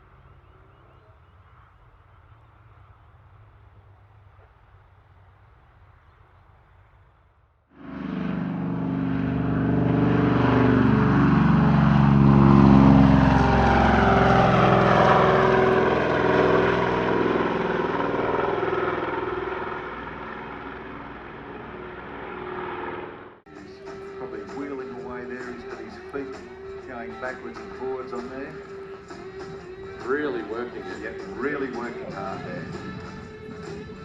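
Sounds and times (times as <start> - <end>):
aircraft flying past: 0.0 - 34.0.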